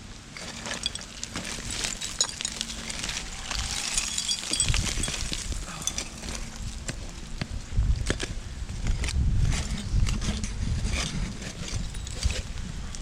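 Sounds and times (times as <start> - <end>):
digging scrapes and clinks: 0.3 - 7.2, 9.0 - 12.6.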